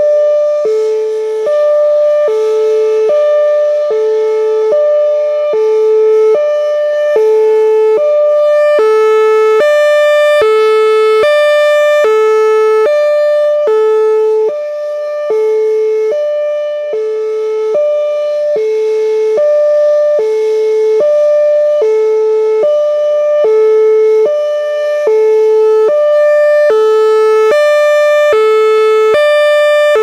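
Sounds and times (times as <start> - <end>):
two-tone warning siren: 0.0 - 30.0.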